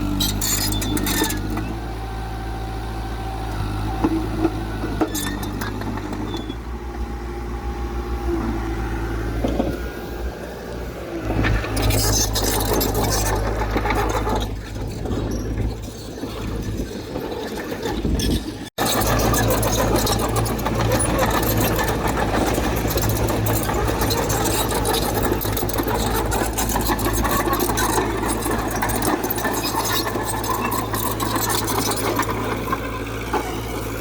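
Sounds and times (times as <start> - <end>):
diesel engine of heavy machinery: 0.0 - 34.0.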